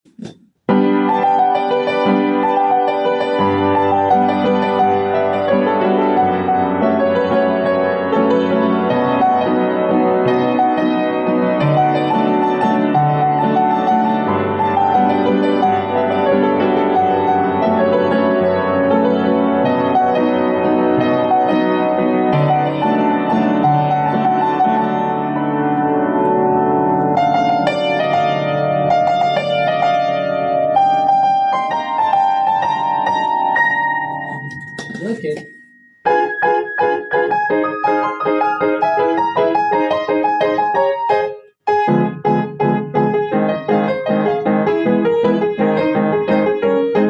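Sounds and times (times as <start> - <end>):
piano music: 0.2 - 47.0.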